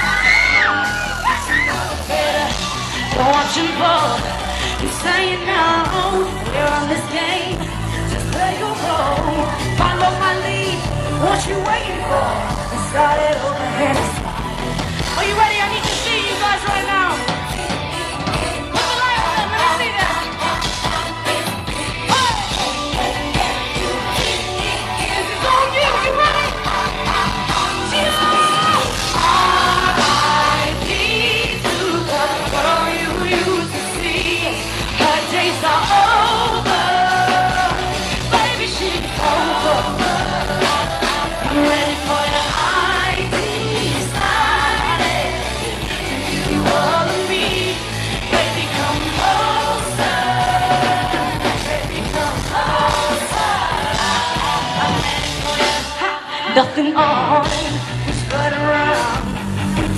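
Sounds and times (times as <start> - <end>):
live pop song over loudspeakers: 0.0 - 59.9
woman singing: 0.0 - 59.9.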